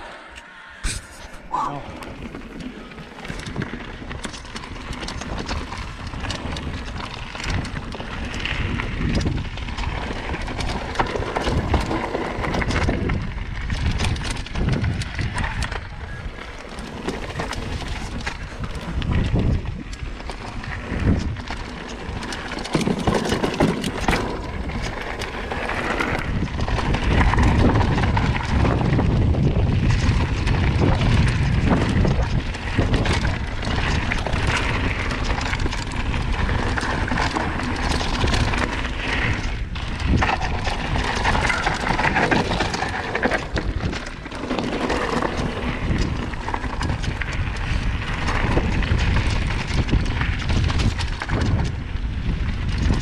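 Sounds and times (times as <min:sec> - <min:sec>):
wind buffeting microphone: 0:00.0 - 0:53.0
tyres rumbling over stones: 0:01.0 - 0:53.0
bike rattling and knocking: 0:02.1 - 0:53.0.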